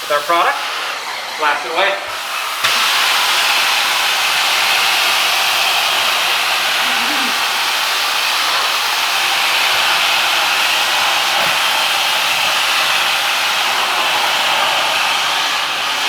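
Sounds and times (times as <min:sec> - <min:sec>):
pressurised spray and vacuum hiss: 0:00.0 - 0:16.0.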